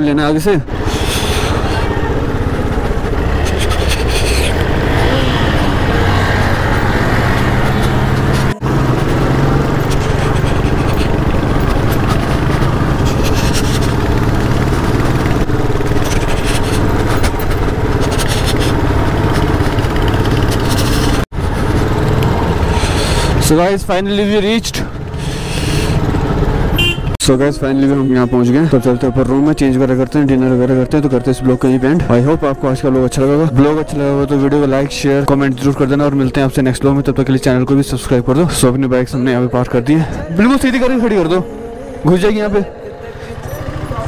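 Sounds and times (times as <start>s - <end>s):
motorcycle engine running: 0.0s - 44.0s
wind and road noise: 0.0s - 44.0s.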